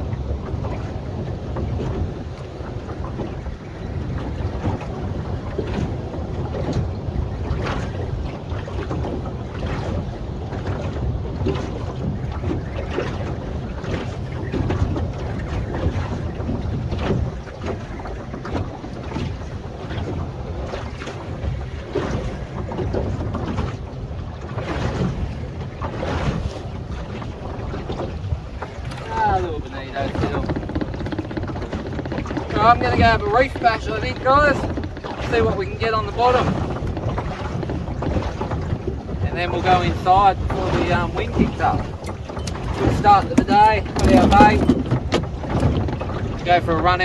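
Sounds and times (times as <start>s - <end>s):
water slapping against boat hull: 0.0s - 47.0s
wind buffeting microphone: 0.0s - 47.0s.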